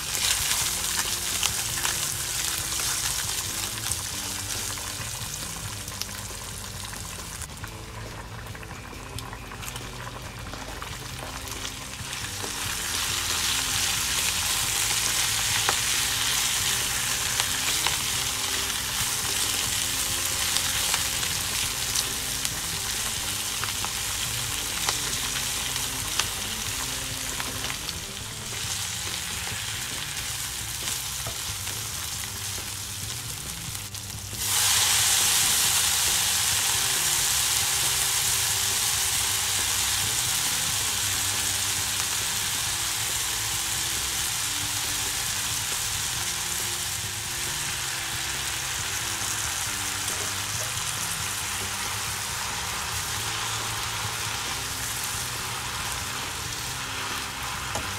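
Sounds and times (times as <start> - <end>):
bacon sizzling in a frying pan: 0.0 - 57.9.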